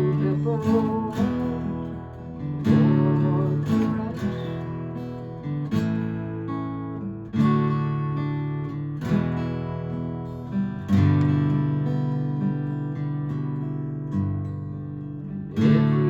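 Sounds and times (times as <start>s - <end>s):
acoustic guitar chord ringing: 0.0s - 16.0s.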